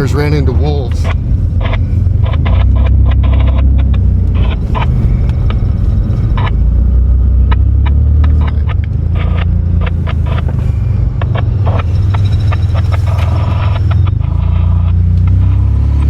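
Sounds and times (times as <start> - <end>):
engine and road rumble: 0.0 - 16.0
vehicle rattles and knocks: 0.0 - 16.0.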